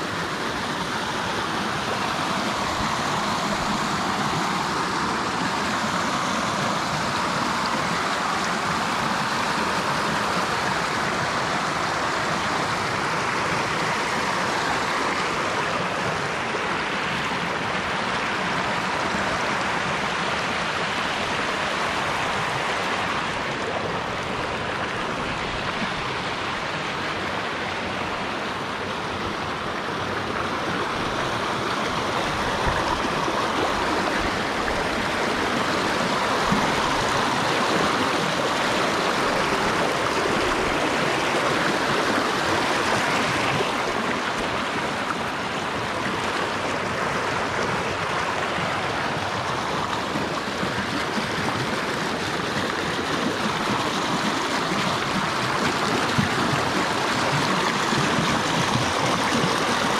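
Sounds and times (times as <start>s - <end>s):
river rapids rushing over rocks: 0.0s - 59.9s.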